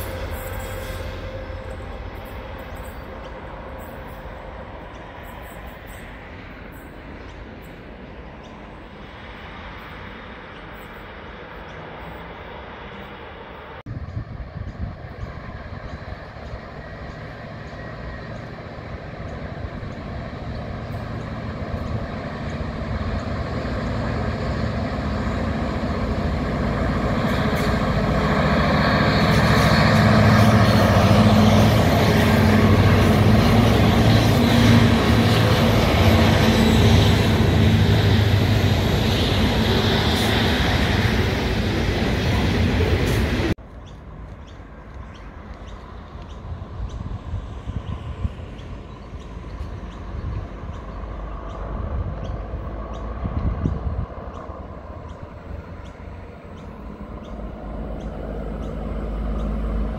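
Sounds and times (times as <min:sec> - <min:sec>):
diesel locomotive engine drone: 0:00.0 - 0:59.9
train wagons rumbling on rails: 0:00.0 - 0:59.9.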